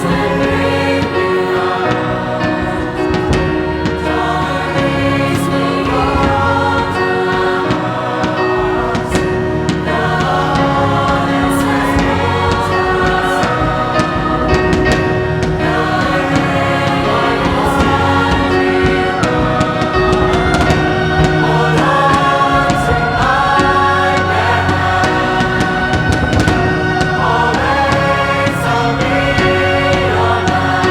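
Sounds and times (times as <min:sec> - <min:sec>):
instrumental accompaniment: 0:00.0 - 0:30.9
youth choir singing chords: 0:00.0 - 0:30.9.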